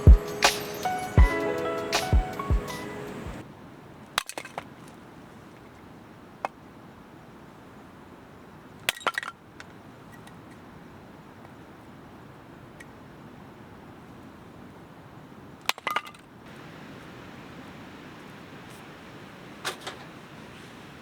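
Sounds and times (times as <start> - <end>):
faint steady background: 0.0 - 21.0.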